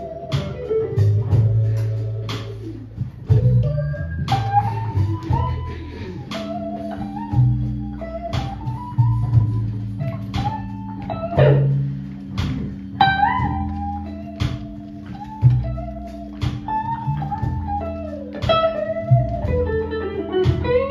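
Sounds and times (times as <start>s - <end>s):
bass line: 0.0s - 20.9s
electric guitar lead: 0.0s - 20.9s
held keyboard chord: 0.0s - 20.9s.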